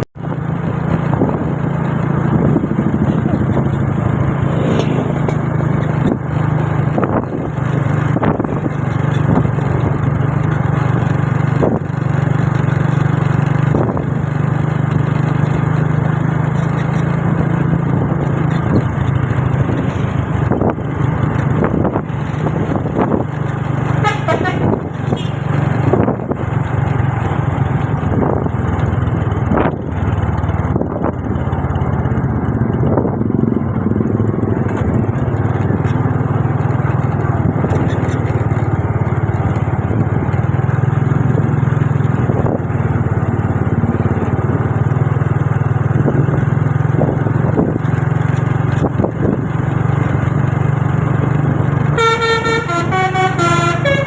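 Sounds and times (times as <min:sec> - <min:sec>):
vehicle engines in traffic: 0:00.0 - 0:54.0.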